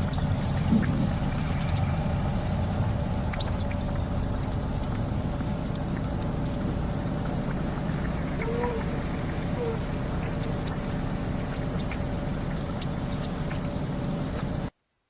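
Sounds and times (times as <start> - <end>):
low rumble: 0.0 - 14.7
faint steady hum: 0.0 - 15.0.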